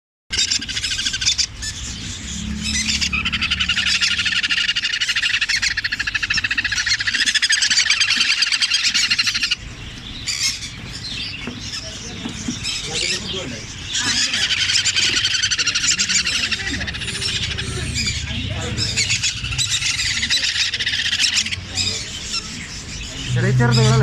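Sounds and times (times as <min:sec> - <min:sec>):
young birds chirping begging calls: 0:00.3 - 0:24.0.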